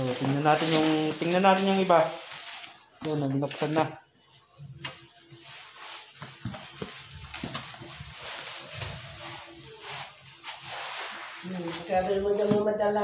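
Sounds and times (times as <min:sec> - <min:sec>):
cardboard rustling and scraping: 0:00.0 - 0:03.9, 0:05.0 - 0:13.0.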